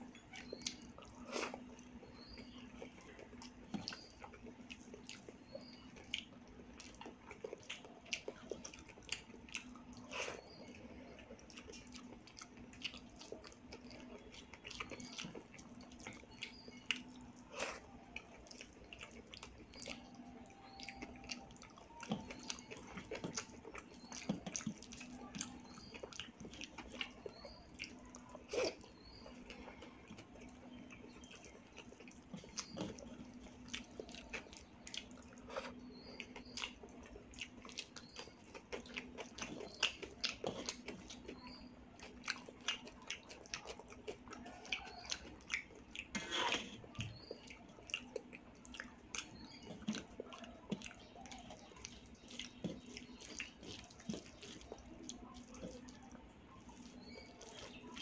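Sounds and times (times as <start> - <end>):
faint low hum: 0.0 - 58.0
wet chewing and lip smacks: 0.0 - 58.0.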